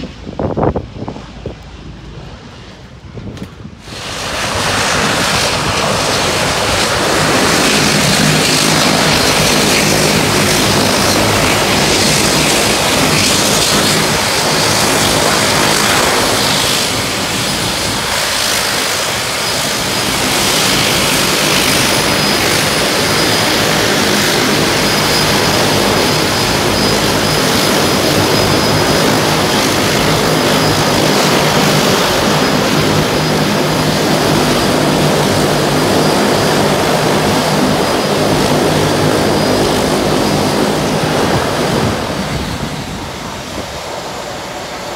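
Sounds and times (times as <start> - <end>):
propeller engine drone: 0.0 - 44.9.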